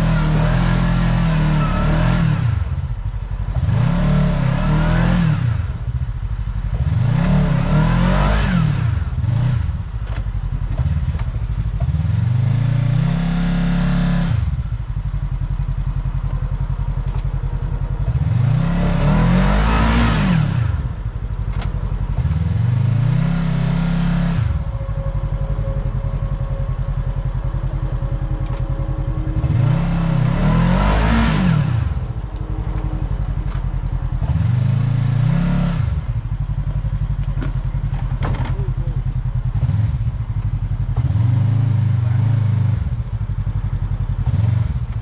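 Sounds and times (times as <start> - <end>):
utility vehicle engine revving: 0.0 - 45.0.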